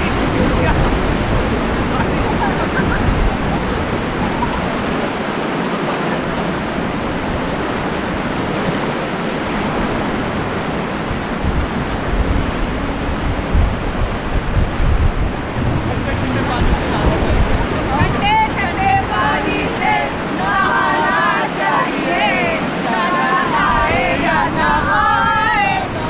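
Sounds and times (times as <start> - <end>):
river rapids rushing: 0.0 - 26.0
wind buffeting microphone: 0.0 - 26.0.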